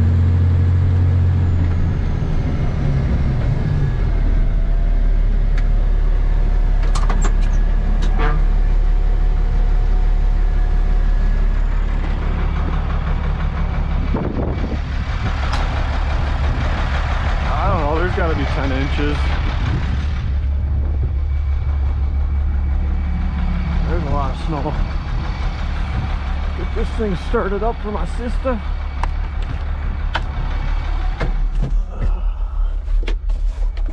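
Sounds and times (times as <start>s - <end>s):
truck engine drone: 0.0s - 33.9s.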